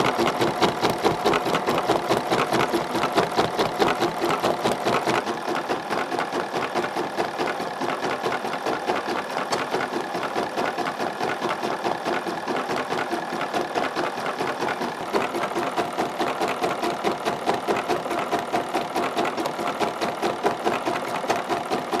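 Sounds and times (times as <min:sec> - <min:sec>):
embroidery machine stitching: 0:00.0 - 0:22.0.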